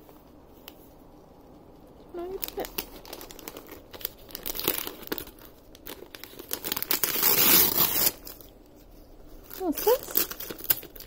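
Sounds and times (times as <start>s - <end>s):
wrapping paper crinkling and tearing: 0.5s - 11.0s.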